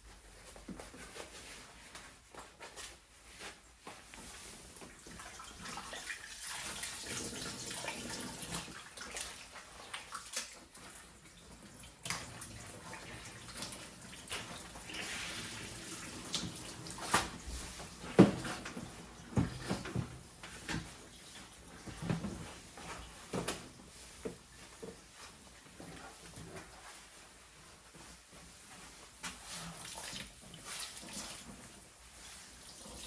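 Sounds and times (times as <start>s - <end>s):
water sloshing in a tub: 4.2s - 27.2s, 28.5s - 33.0s.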